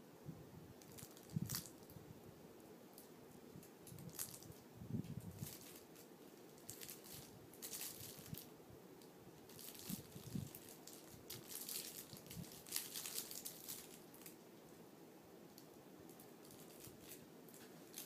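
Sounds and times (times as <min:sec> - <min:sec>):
faint crinkling and rustling: 0:00.8 - 0:02.0, 0:02.9 - 0:14.8, 0:15.5 - 0:18.0.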